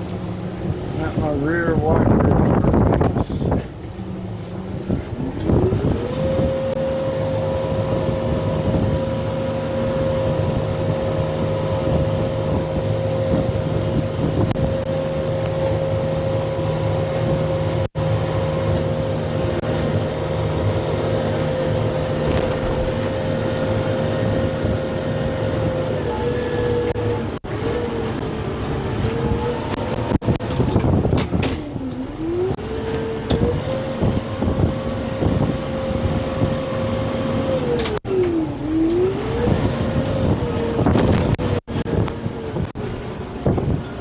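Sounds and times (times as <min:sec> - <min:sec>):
tractor diesel engine revving: 0:03.2 - 0:43.6.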